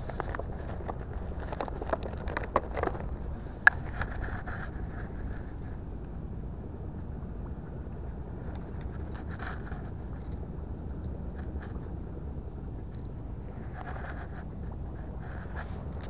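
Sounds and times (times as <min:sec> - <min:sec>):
fishing line clicks and rustles: 0:00.0 - 0:07.1, 0:07.9 - 0:16.0
low outdoor rumble: 0:00.0 - 0:16.0.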